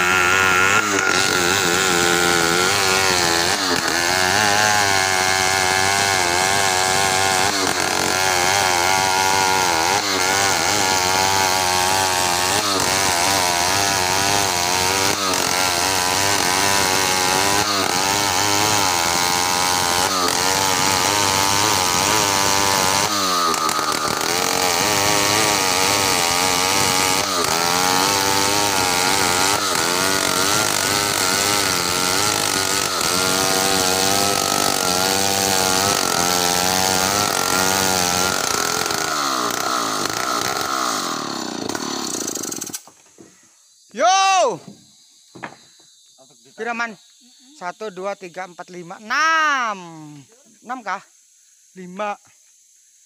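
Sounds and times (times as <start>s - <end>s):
chainsaw cutting log: 0.0s - 43.4s.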